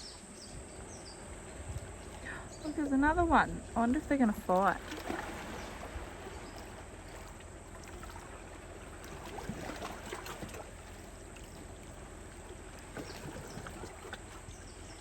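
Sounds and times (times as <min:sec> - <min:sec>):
water lapping among rocks: 0:00.0 - 0:15.0.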